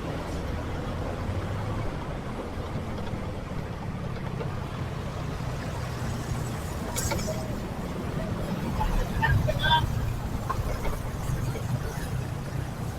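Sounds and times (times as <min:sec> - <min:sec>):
traffic noise: 0:00.0 - 0:12.9.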